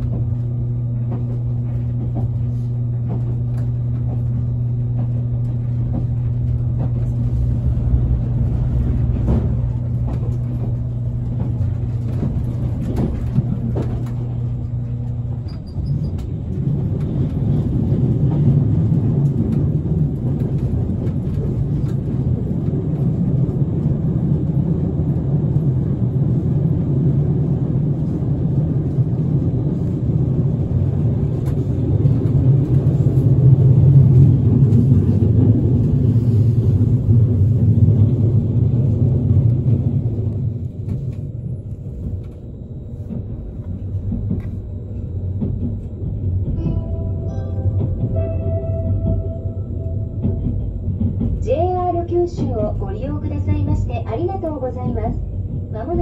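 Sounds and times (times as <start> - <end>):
train car hum: 0.0 - 56.0
wheels rumbling on rail: 0.0 - 56.0.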